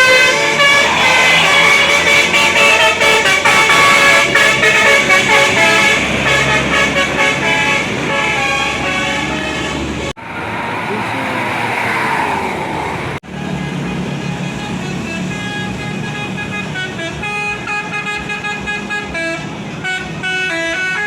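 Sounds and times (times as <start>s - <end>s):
bus musical horn melody: 0.0s - 10.2s, 13.2s - 21.0s.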